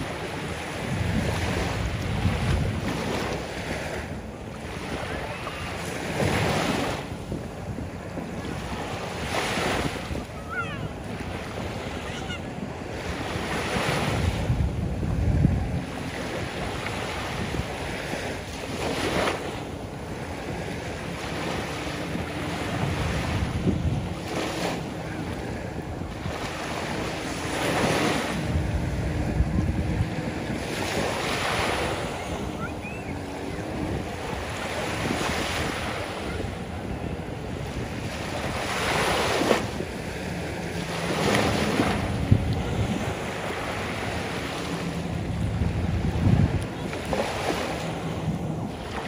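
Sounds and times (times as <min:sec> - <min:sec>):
small waves breaking on beach: 0:00.0 - 0:49.0
wind rumbling on microphone: 0:00.0 - 0:49.0.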